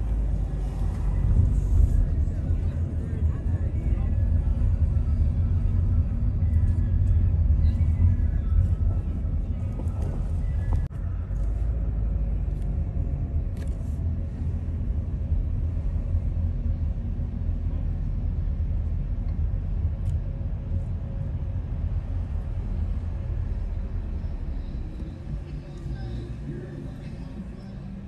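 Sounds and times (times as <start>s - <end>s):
car engine rumble: 0.0s - 28.0s
tyres on road: 0.0s - 28.0s.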